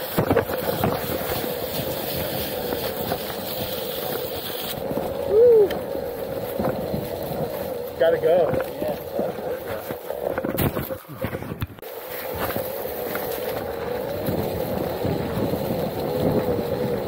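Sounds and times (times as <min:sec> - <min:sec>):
wind on microphone: 0:00.0 - 0:07.8, 0:08.4 - 0:17.0.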